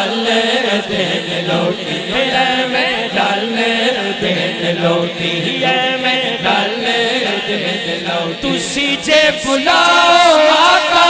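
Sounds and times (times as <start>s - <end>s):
man singing: 0.0s - 11.0s.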